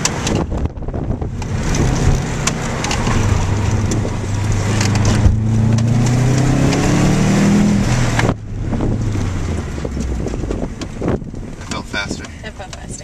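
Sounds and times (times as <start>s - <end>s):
car engine pulling hard: 0.0s - 13.0s
wind and road noise: 0.0s - 13.0s.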